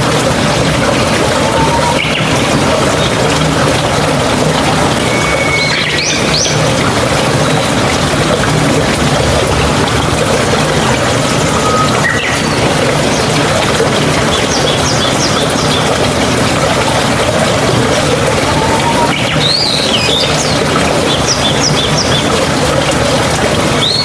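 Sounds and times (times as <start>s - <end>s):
stream water gurgling: 0.0s - 24.0s.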